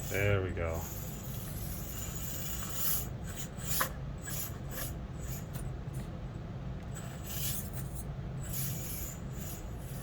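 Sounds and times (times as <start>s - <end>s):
small electric motor and gearbox: 0.0s - 6.2s, 6.8s - 10.0s.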